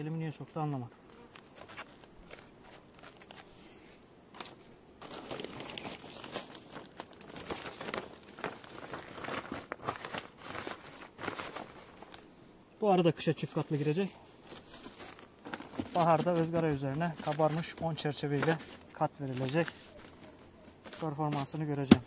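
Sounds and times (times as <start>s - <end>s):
plastic sheet crinkling: 1.2s - 3.5s, 4.4s - 12.2s, 13.4s - 22.0s.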